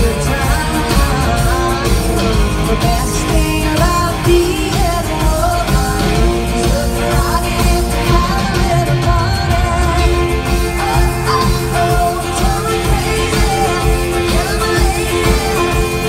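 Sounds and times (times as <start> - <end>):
live pop-rock band: 0.0 - 16.0
woman singing: 0.0 - 16.0.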